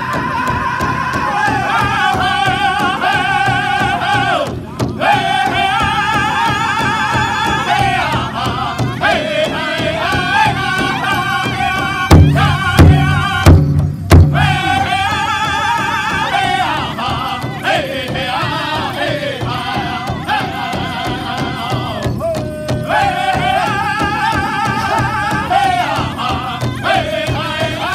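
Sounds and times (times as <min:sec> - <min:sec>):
group singing in high wavering voices: 0:00.0 - 0:27.9
large hide drum struck in unison: 0:00.0 - 0:27.9.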